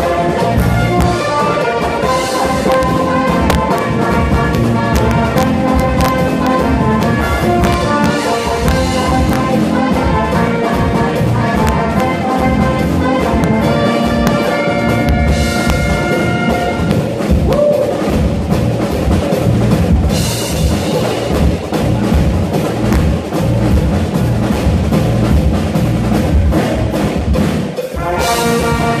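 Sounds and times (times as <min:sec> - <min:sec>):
bass drums pounding: 0:00.0 - 0:29.0
saxophones and brass melody: 0:00.0 - 0:29.0.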